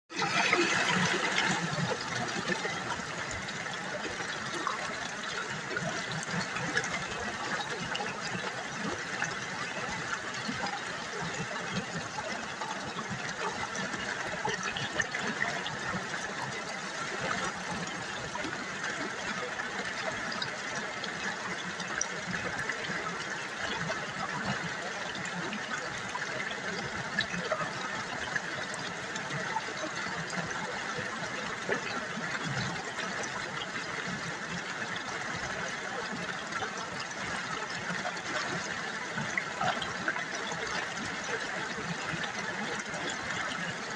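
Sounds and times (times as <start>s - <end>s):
river babbling over stones: 0.1s - 43.9s.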